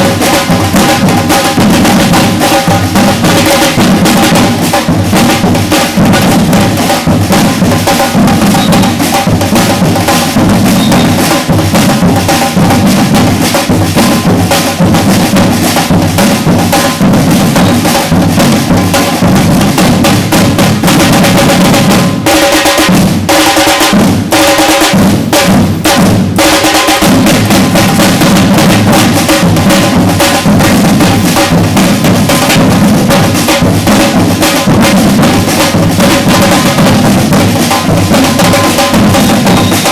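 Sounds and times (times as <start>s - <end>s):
drum ensemble playing: 0.0s - 39.9s.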